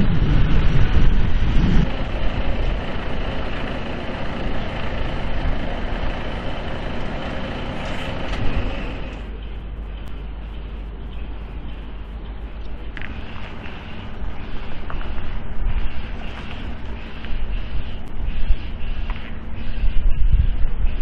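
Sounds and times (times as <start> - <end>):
heavy truck engine rumble: 0.0 - 21.0.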